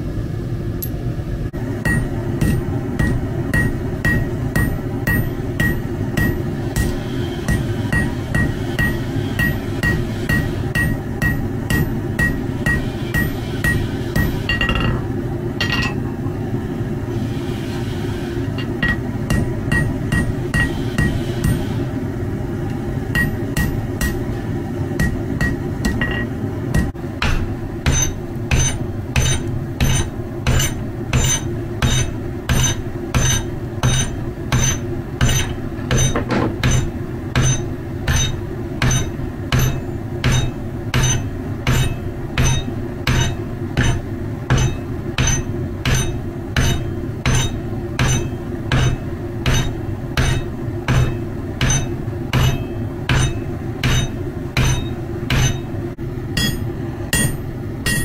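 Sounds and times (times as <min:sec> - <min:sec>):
hammer ringing on anvil: 0:01.8 - 0:15.0, 0:18.6 - 0:21.6, 0:23.2 - 0:24.2, 0:25.0 - 0:55.7, 0:56.4 - 0:58.0.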